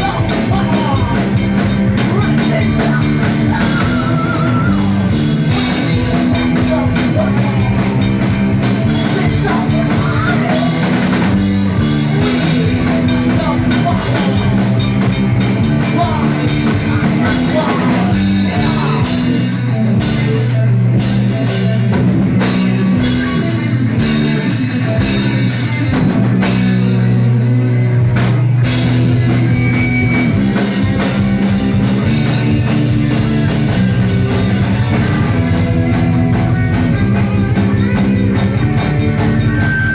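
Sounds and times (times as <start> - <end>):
loud rock music: 0.0 - 39.9
sustained low bass notes: 0.0 - 39.9.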